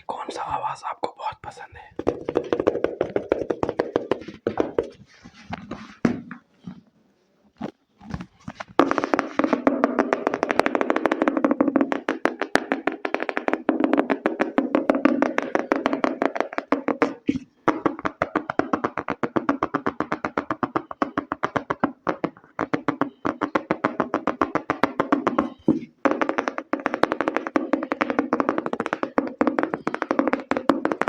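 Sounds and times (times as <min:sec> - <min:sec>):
fingertips tapping on object: 0:01.4 - 0:06.8, 0:08.1 - 0:31.0.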